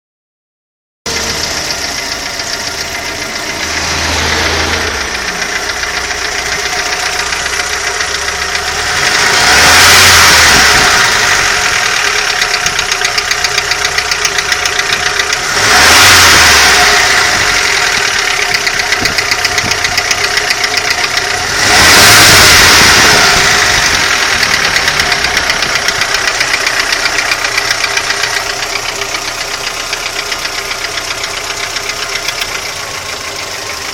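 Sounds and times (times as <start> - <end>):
car engine knocking: 1.1 - 33.9
engine revving: 1.1 - 33.9.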